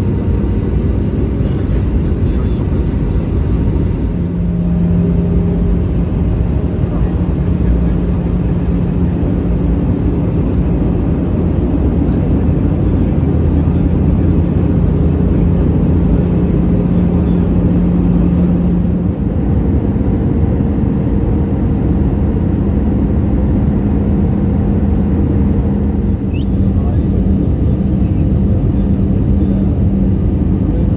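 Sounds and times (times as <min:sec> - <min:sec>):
jet engine hum: 0:00.0 - 0:30.9.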